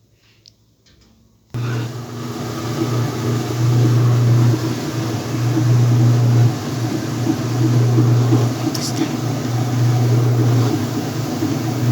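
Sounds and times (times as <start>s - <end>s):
washing machine spinning hum: 1.6s - 11.9s.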